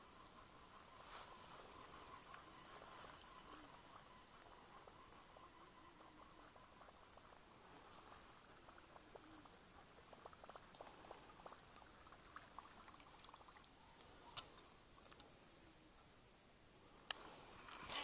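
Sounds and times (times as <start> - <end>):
faint high hiss: 0.0 - 18.0.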